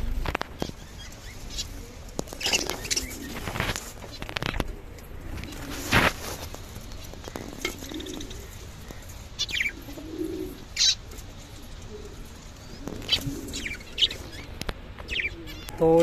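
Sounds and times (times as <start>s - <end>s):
finches chirping: 0.1s - 4.8s, 6.8s - 16.0s
pigeon cooing: 1.4s - 16.0s.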